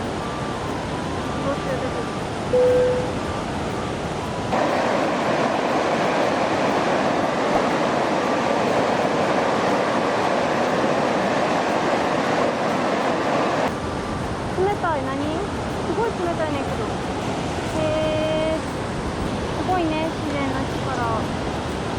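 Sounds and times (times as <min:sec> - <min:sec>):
stream water rushing: 0:00.0 - 0:21.9.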